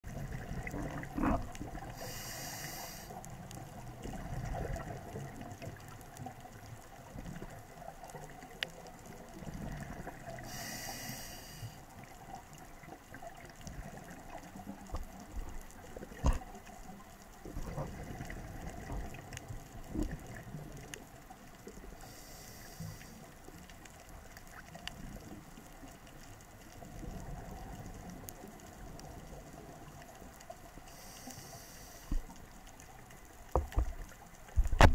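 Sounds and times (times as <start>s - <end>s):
low underwater rumble: 0.0s - 34.9s.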